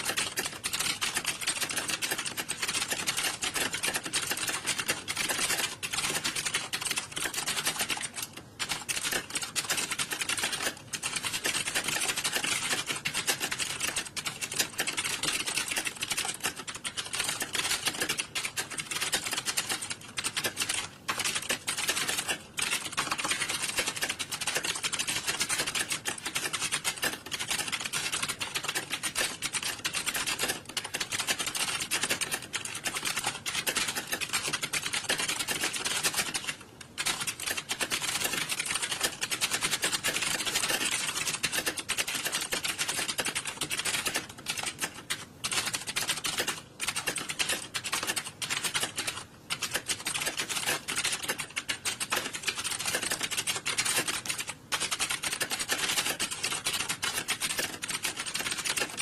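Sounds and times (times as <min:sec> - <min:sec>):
keyboard typing clatter: 0:00.0 - 0:59.0.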